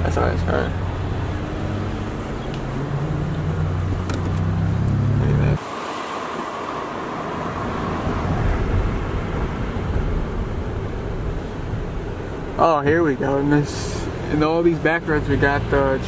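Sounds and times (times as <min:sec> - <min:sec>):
car engine hum: 0:00.0 - 0:16.0
road and wind noise: 0:00.0 - 0:16.0.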